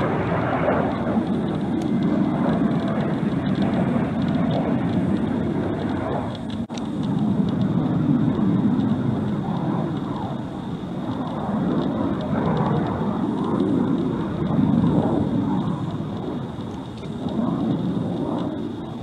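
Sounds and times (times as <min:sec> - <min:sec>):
fighter jets rumbling overhead: 0:00.0 - 0:19.0.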